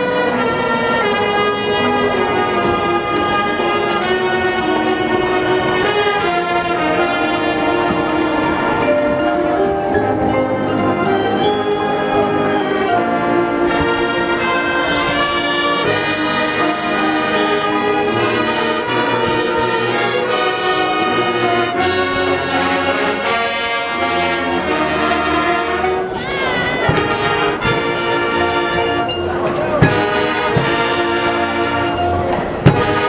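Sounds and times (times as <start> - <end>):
brass chords: 0.0 - 33.0
marching band percussion: 0.0 - 33.0.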